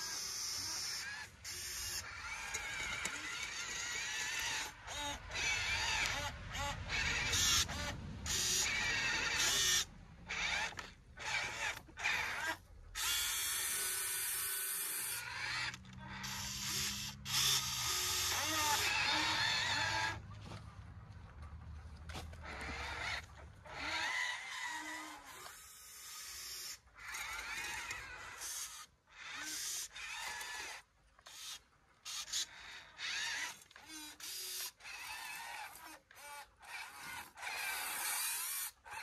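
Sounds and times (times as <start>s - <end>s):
small electric motors whining: 0.0s - 20.3s, 22.2s - 39.0s.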